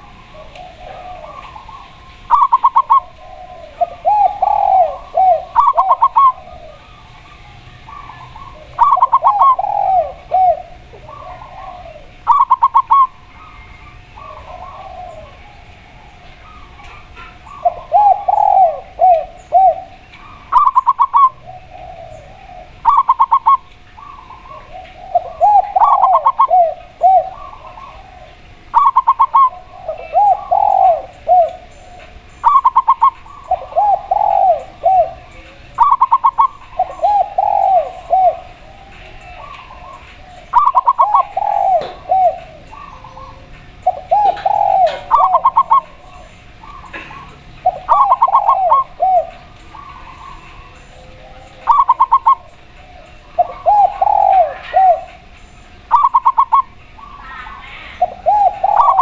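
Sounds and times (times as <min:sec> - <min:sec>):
doves cooing: 0:00.0 - 0:59.0.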